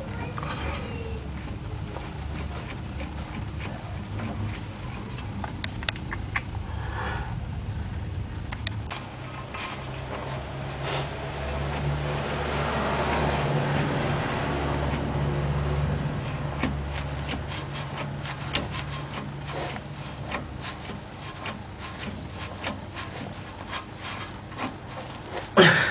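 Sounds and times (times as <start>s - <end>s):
handling clicks and rubbing: 0.0s - 6.6s, 8.4s - 25.6s
low mechanical hum: 0.0s - 25.9s.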